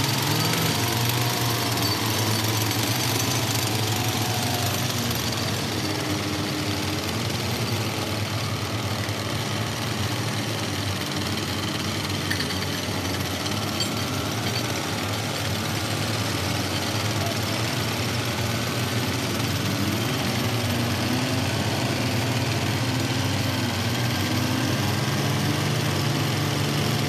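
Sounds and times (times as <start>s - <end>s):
pneumatic picks hammering rock: 0.0s - 27.0s.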